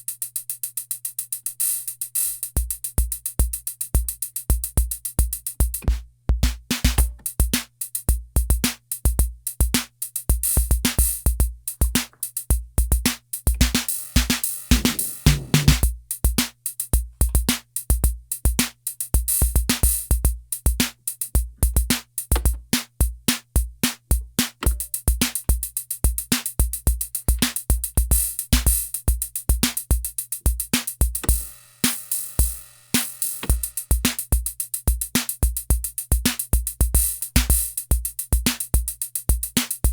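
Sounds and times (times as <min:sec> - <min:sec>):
drum machine beat: 0:02.3 - 0:39.9.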